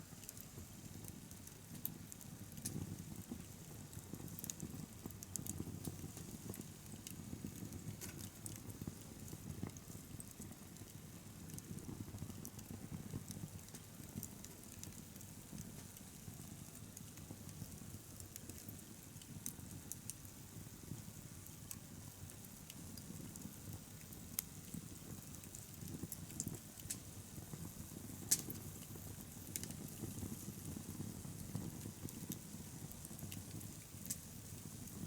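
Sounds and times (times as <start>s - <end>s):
burning wood crackling and popping: 0.0s - 35.0s.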